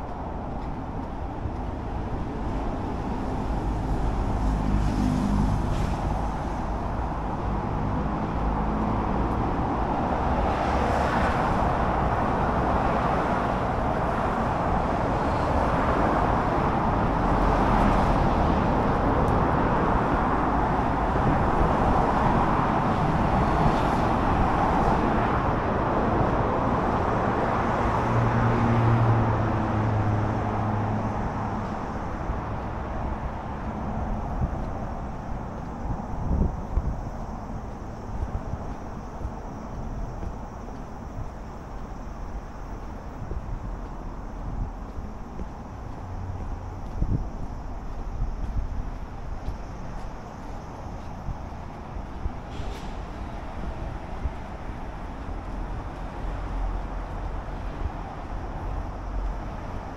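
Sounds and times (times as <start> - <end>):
engine hum: 0.0 - 59.9
vehicles passing close by: 0.0 - 59.9.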